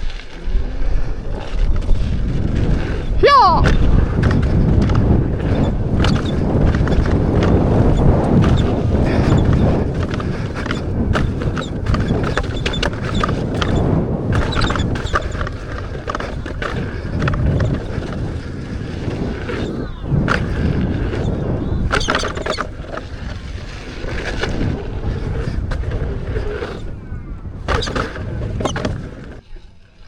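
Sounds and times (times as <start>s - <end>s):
wind buffeting microphone: 0.0s - 29.4s.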